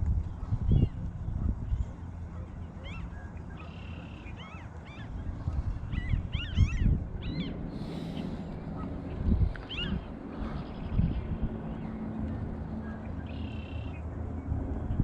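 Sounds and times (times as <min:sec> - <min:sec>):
birds chirping: 0:00.3 - 0:14.6.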